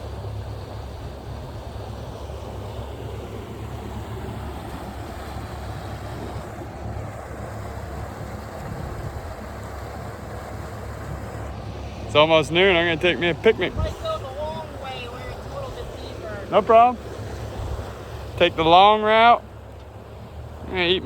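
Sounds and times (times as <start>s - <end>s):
boat engine rumbling: 0.0s - 21.0s
wind buffeting microphone: 0.0s - 21.0s.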